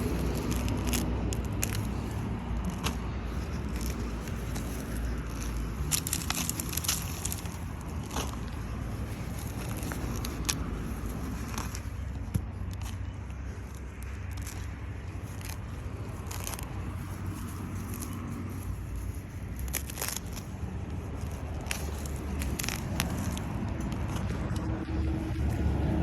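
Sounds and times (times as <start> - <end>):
low rumble: 0.0 - 26.0
weeds pulled rustling and tearing: 0.0 - 26.0.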